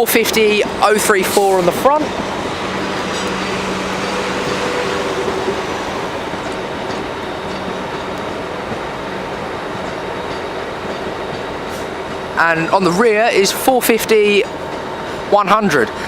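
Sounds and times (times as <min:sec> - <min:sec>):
train running gear rumble: 0:00.0 - 0:16.0.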